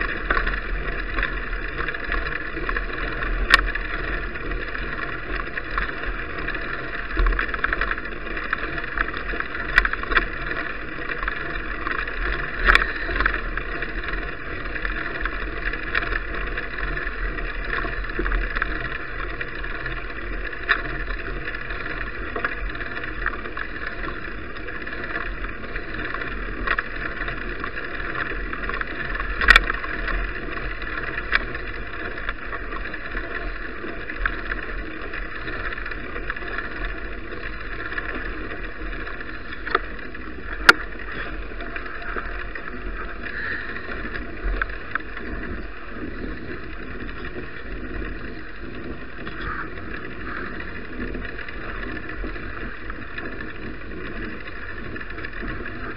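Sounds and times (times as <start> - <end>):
bicycle tyres and wind rushing: 0.0 - 55.9.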